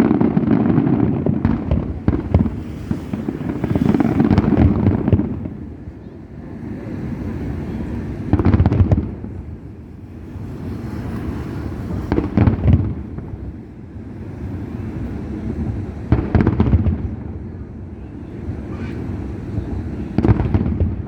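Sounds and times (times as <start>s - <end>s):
fireworks bangs with crackle: 0.0s - 21.0s
steady low rumble: 0.6s - 21.0s.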